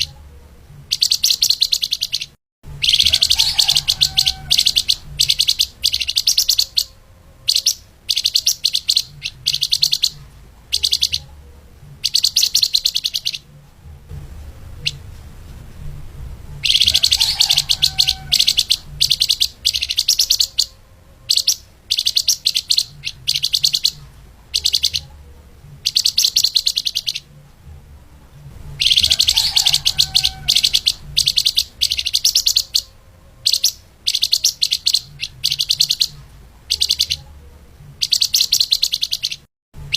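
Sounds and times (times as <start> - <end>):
songbird high-pitched trill: 0.9 - 11.4, 12.0 - 13.5, 16.6 - 25.2, 25.8 - 27.3, 28.7 - 37.3, 38.0 - 39.9.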